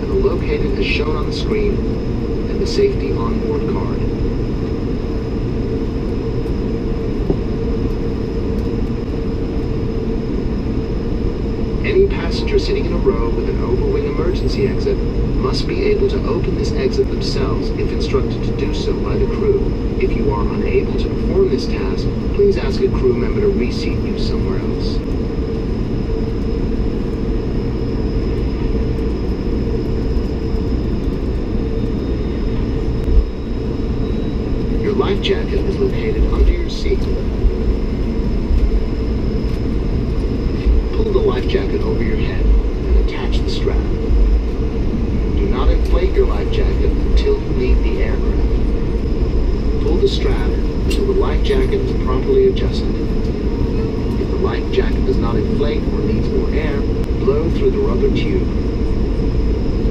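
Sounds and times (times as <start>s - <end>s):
airliner cabin rumble: 0.0s - 59.9s
faint high whine: 0.0s - 59.9s.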